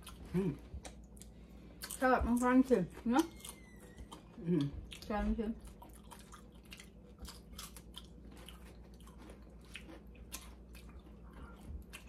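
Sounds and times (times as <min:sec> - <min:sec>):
person chewing crunchy chips: 0:00.0 - 0:02.1, 0:03.0 - 0:12.0.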